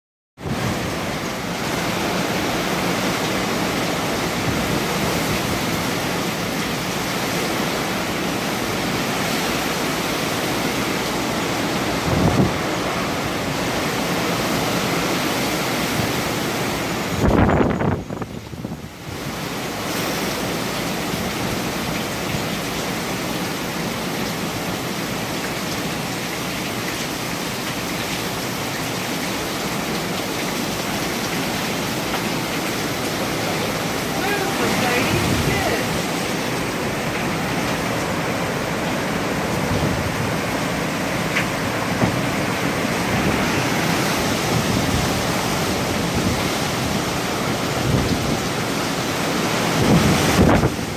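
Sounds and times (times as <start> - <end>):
hurricane winds blowing: 0.4 - 50.9.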